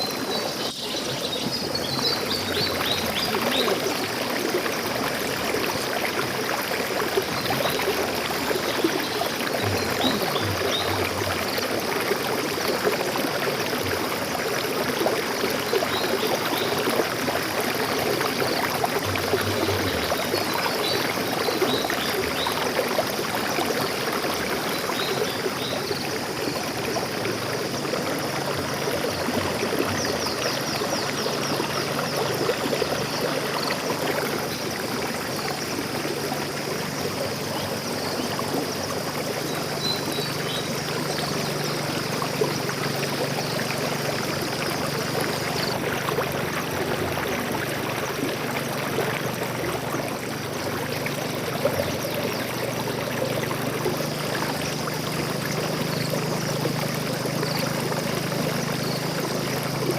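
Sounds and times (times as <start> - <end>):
stream of water splashing: 0.0 - 59.9.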